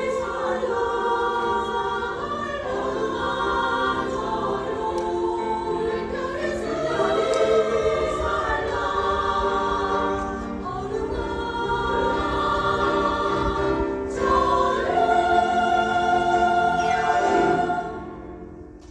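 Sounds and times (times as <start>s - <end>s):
choir singing in harmony: 0.0s - 18.9s.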